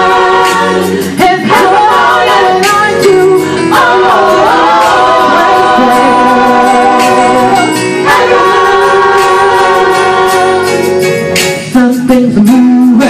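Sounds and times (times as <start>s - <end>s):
gospel singing with backing: 0.0s - 13.0s.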